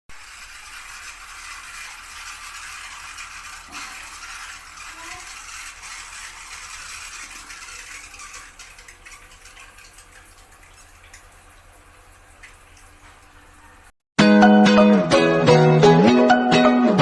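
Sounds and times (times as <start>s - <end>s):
water spraying from shower head: 0.1s - 13.9s.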